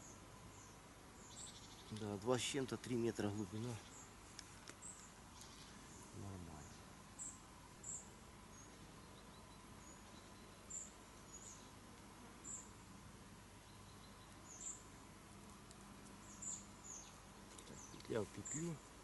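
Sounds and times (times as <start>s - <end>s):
small bird chirping: 0.0s - 2.2s, 3.0s - 11.8s, 12.4s - 12.8s, 13.6s - 14.9s, 15.6s - 19.0s.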